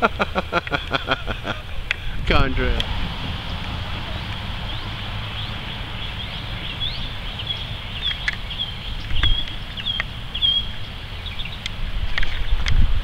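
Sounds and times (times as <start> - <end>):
wind rumbling on microphone: 0.0 - 13.0
small birds chirping: 1.7 - 12.8.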